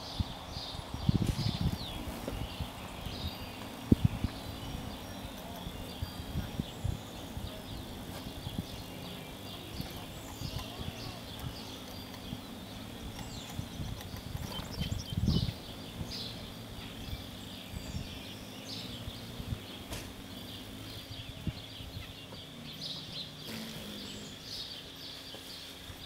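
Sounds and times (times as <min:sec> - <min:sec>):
songbirds chirping: 0:00.0 - 0:26.0
faint low hum: 0:00.2 - 0:26.0.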